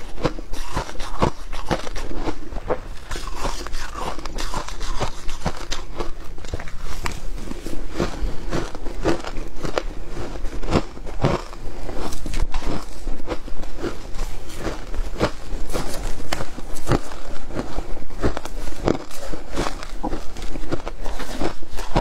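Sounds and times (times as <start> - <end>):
shaved ice crunched and chewed: 0.0 - 22.0.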